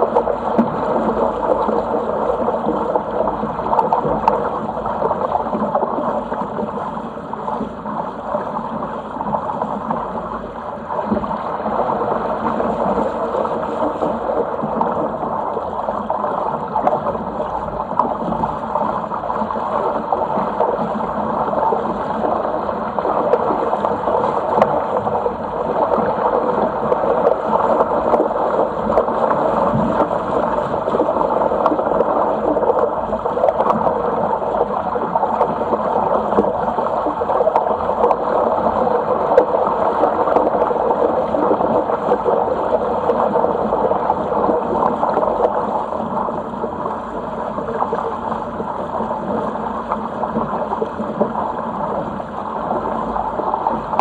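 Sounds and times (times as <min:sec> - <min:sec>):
water rushing along a boat hull: 0:00.0 - 0:54.0.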